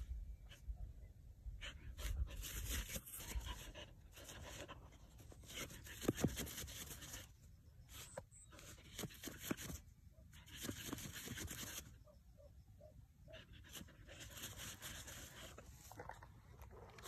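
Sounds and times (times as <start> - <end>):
dog digging in loose soil: 1.6 - 12.0, 13.4 - 17.0.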